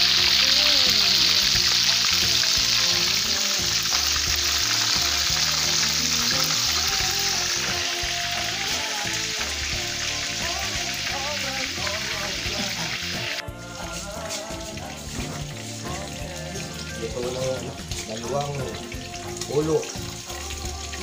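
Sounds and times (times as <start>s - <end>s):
fish deep-frying in oil: 0.0s - 21.0s
soft background music: 0.0s - 21.0s.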